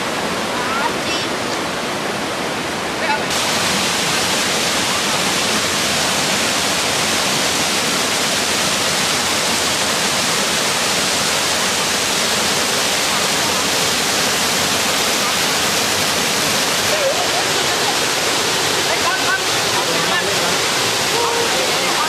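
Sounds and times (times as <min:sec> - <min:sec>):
water rushing over waterfall: 0:00.0 - 0:22.0.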